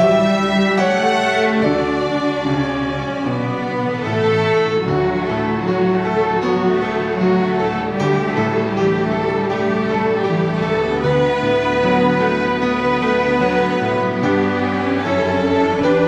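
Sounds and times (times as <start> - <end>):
string orchestra playing chords: 0.0 - 16.0.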